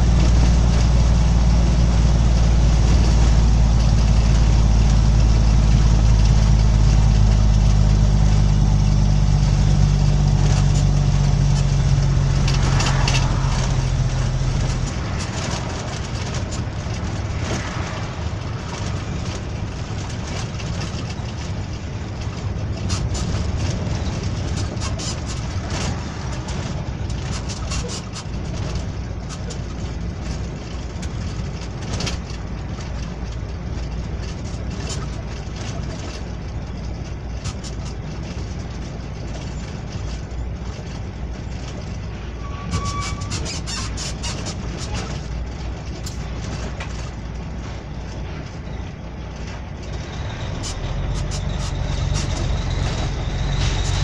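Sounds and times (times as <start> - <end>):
road noise: 0.0 - 54.0
truck engine droning: 0.0 - 54.0
cab rattles and clicks: 10.2 - 54.0.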